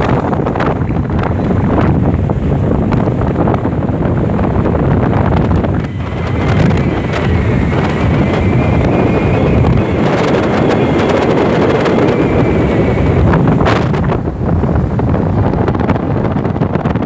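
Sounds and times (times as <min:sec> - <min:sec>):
train rolling across a bridge: 0:00.0 - 0:16.3
wind buffeting the microphone: 0:00.0 - 0:17.0.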